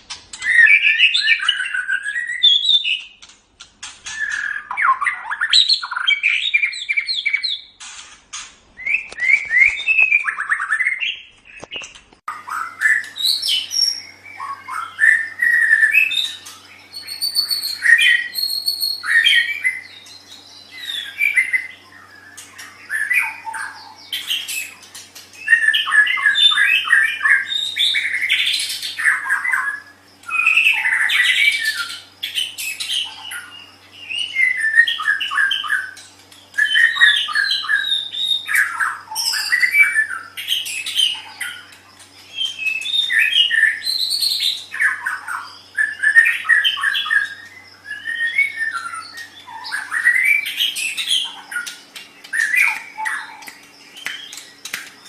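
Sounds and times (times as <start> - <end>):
songbird singing: 0.0 - 3.2, 4.0 - 7.8, 8.7 - 55.0.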